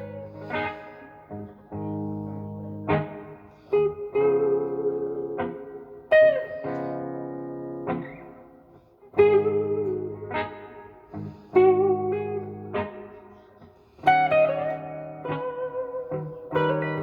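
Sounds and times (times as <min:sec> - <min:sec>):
electric guitar playing slow blues: 0:00.0 - 0:17.0.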